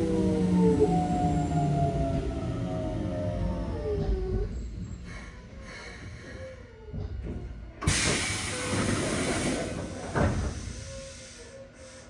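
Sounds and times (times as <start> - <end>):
train wheel rumble: 0.0 - 12.0.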